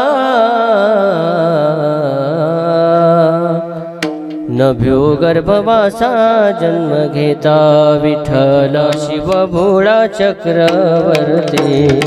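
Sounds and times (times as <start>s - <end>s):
man singing devotional song: 0.0s - 12.0s.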